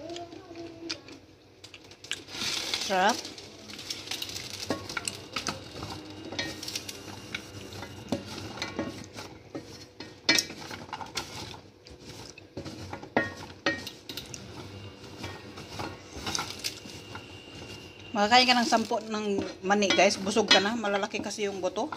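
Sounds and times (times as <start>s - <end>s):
peanut shells rattling in pan: 1.6s - 21.9s.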